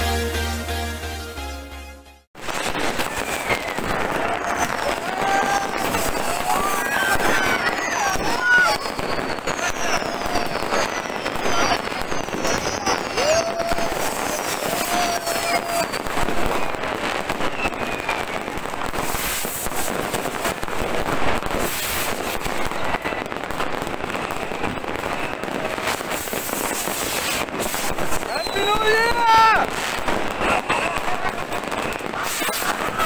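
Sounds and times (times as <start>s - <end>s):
falling firework whistles: 2.4s - 33.0s
fireworks bangs and crackling: 2.4s - 33.0s.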